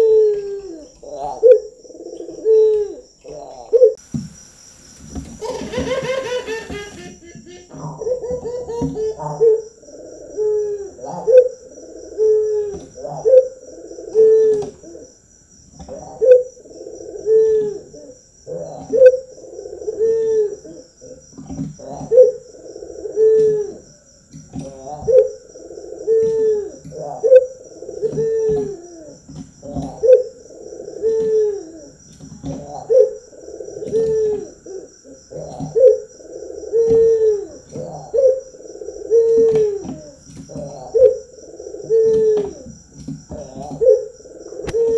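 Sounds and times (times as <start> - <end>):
dove cooing: 0.0 - 4.0, 5.0 - 15.2, 15.8 - 44.9.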